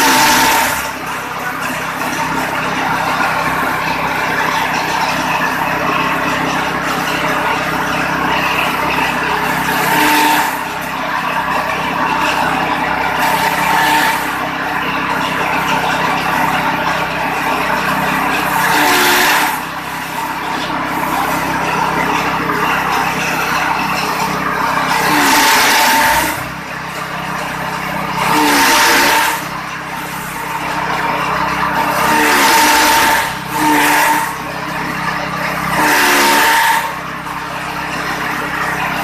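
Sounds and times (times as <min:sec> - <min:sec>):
blades shredding straw: 0:00.0 - 0:39.0
straw chopper motor humming: 0:00.0 - 0:39.0.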